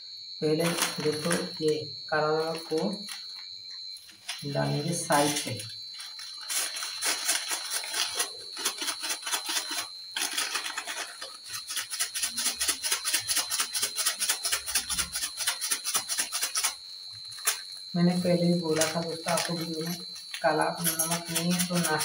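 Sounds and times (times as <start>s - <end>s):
plastic sachet rasping on steel bowl: 4.2s - 22.0s.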